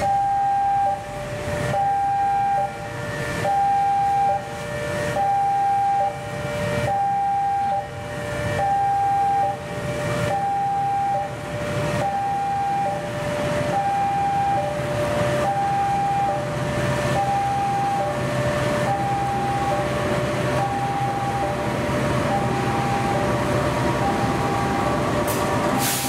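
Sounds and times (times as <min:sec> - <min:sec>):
diesel locomotive engine rumbling: 0:00.0 - 0:26.0
two-tone crossing alarm: 0:00.0 - 0:26.0.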